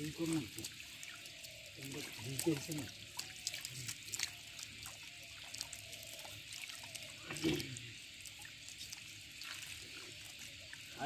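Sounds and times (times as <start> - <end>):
small splashes: 0.0 - 11.0
water trickling and dripping: 0.0 - 11.0.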